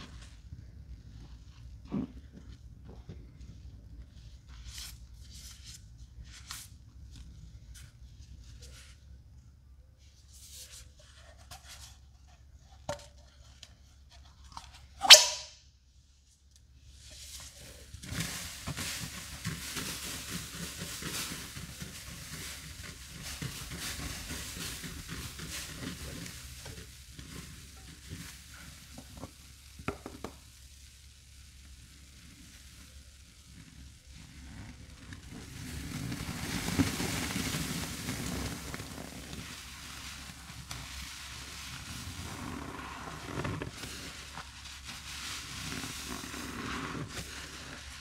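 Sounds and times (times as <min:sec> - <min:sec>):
foam sponges squeezed: 0:00.0 - 0:15.5, 0:16.4 - 0:48.0.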